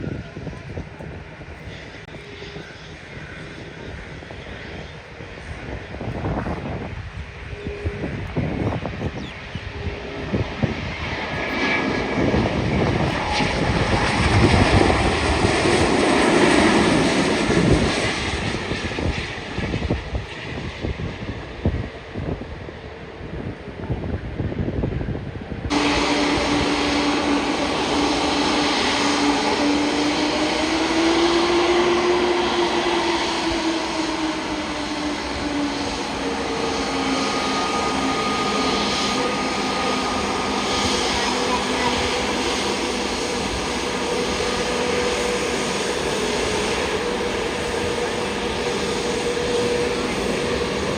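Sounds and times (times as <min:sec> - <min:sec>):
jet airliner engine roar: 0:00.0 - 0:50.9.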